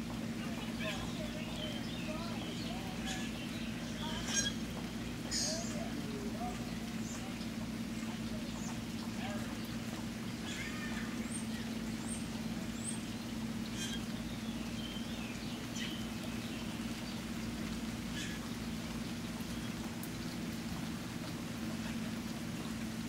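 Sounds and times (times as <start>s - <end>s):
birds chirping: 0.0s - 23.0s
low steady hum: 0.0s - 23.0s
steady rain: 0.0s - 23.0s.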